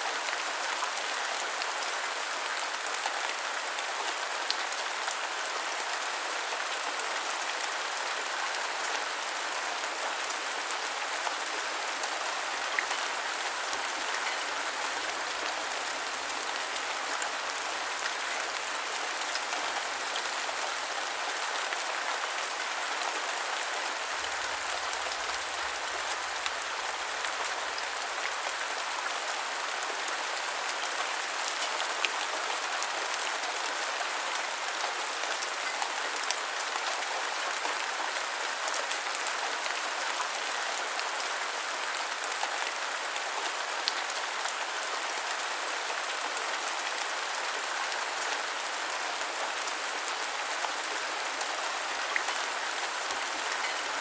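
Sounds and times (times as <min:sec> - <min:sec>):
rain pattering: 0:00.2 - 0:54.0.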